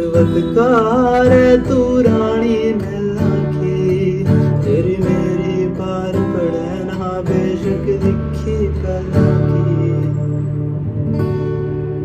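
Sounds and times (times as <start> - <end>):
man singing: 0.0 - 10.5
strummed acoustic guitar: 0.0 - 12.0.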